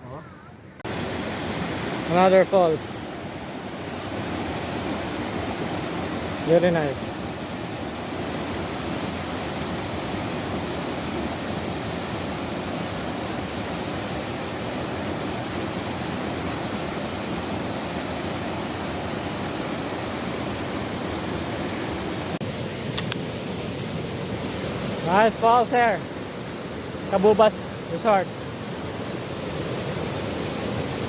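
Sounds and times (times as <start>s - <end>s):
waterfall roaring: 0.9s - 31.0s.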